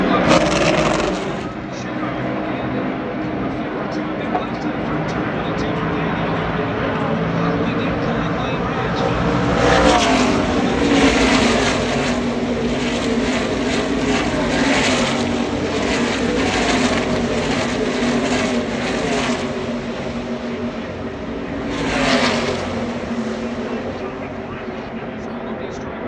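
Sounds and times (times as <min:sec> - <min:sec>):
race truck engines passing: 0:00.0 - 0:26.0
steady engine drone: 0:00.0 - 0:26.0.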